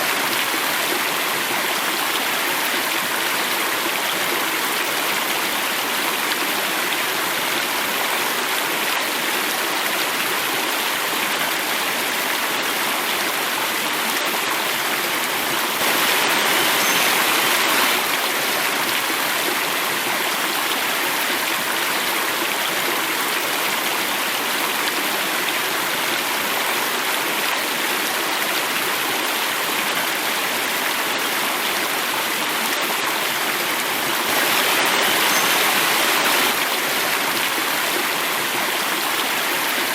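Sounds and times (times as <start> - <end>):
water rushing in a cascade: 0.0 - 39.9.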